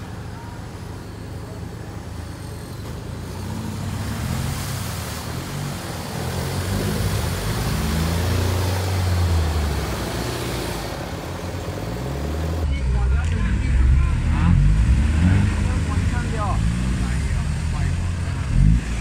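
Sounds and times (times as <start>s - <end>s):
diesel engine revving under load: 2.4s - 12.7s, 13.5s - 19.0s.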